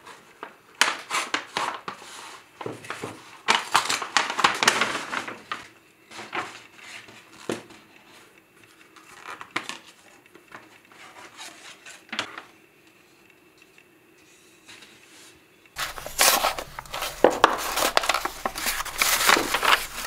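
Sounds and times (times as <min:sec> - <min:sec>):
paper rustling and crinkling: 0:00.0 - 0:12.5, 0:14.3 - 0:20.0.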